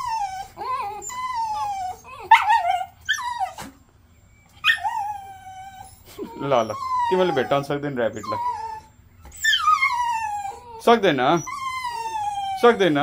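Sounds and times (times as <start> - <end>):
small dog whining: 0.0 - 13.0.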